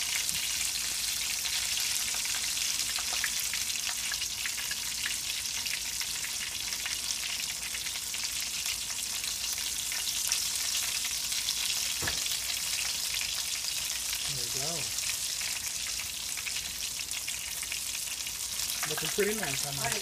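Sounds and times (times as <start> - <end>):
batter frying in hot oil: 0.0 - 20.0.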